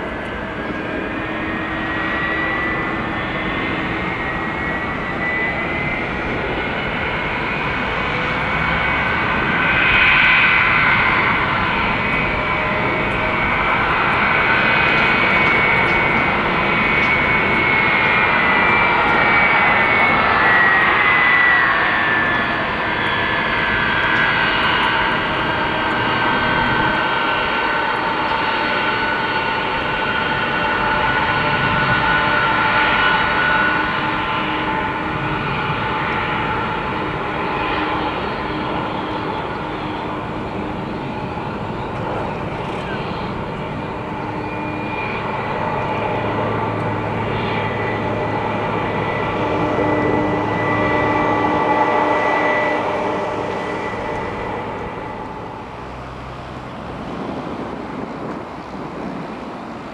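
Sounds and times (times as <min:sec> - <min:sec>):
jet engines rushing and whining: 0:00.0 - 0:59.9.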